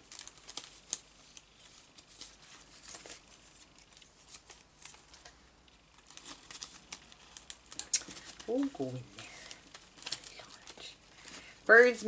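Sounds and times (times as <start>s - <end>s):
paper ticking against paper: 0.0s - 11.4s
paper rustling: 0.0s - 12.0s.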